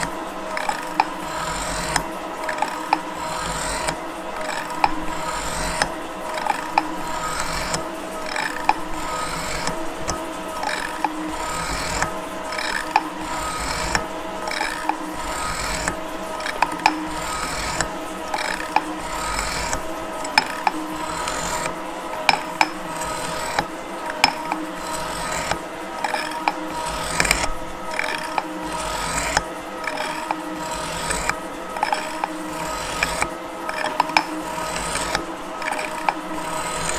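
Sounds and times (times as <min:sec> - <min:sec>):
metal shaper running: 0:00.0 - 0:36.9
shaper ram ticking: 0:00.0 - 0:36.9.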